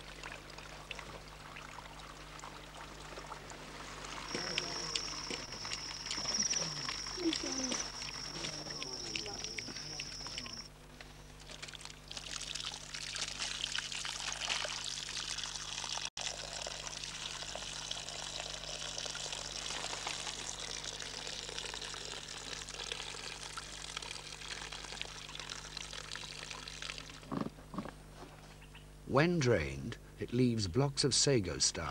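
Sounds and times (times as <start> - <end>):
water pouring and trickling: 0.0 - 10.7, 11.4 - 27.3.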